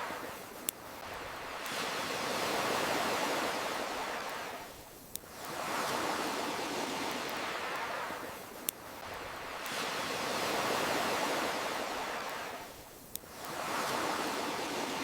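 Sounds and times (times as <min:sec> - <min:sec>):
campfire crackle: 0:00.0 - 0:15.0
ocean surf washing in: 0:00.0 - 0:15.0.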